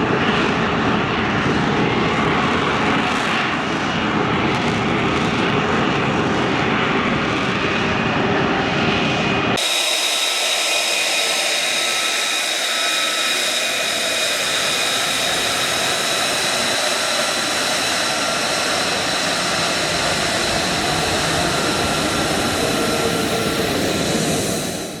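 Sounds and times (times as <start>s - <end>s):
jet engine running with high whine: 0.0s - 25.0s.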